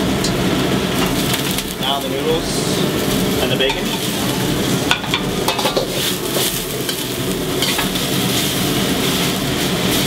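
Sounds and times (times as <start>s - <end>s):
food sizzling in hot oil: 0.0s - 10.0s
utensil scraping a wok: 0.0s - 10.0s.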